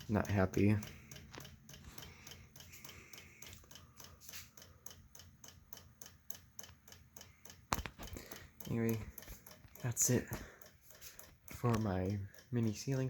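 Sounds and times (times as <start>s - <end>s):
ceiling fan ticking: 0.0s - 13.0s.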